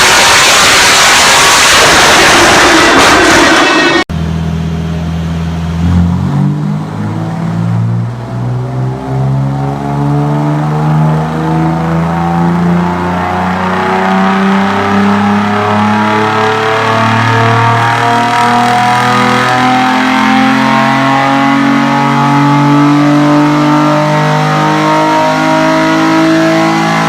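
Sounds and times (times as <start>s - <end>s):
car engine revving under load: 0.1s - 27.0s.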